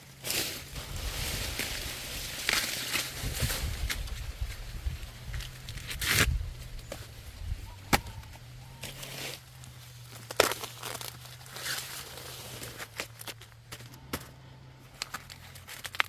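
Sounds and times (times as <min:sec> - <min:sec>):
corn leaves rustling and tearing: 0:00.0 - 0:16.0
steady low hum: 0:00.0 - 0:16.0
corn snapping: 0:00.1 - 0:07.1, 0:07.8 - 0:16.0.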